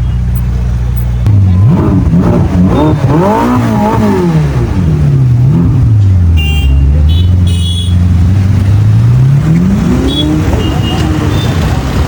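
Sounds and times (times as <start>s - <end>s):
motorcycle engine revving and idling: 0.1s - 12.0s.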